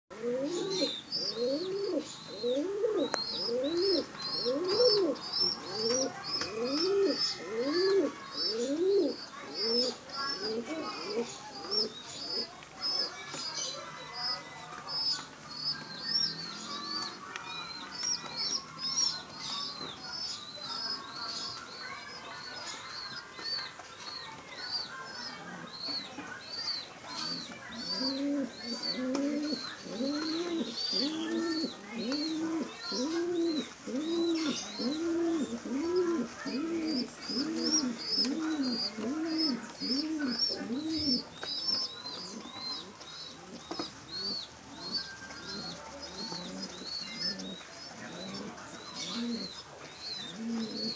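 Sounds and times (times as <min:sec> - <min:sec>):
baby pigeon cheeping: 0:00.1 - 0:50.9.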